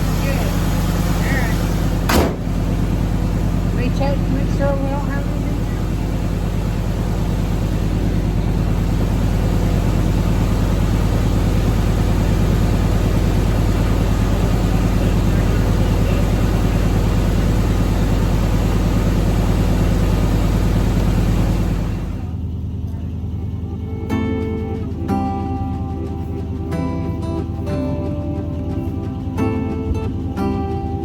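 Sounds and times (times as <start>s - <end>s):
vehicle engine humming: 0.0s - 31.0s.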